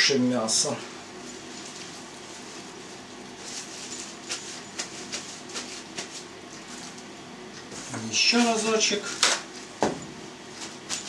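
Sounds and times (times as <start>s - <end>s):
paper towel rustling and crinkling: 1.2s - 9.7s, 10.5s - 11.0s.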